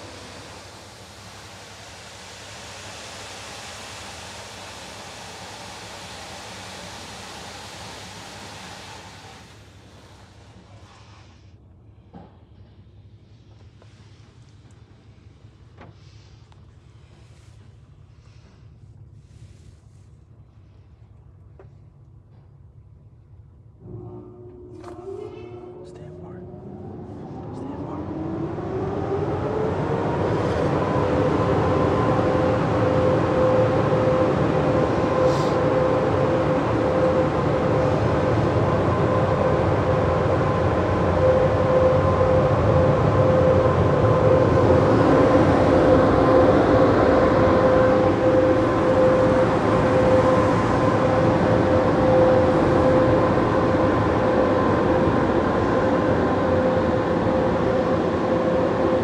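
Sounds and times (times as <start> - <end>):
car wash dryer blowers whining: 0.0 - 16.3, 23.8 - 59.0.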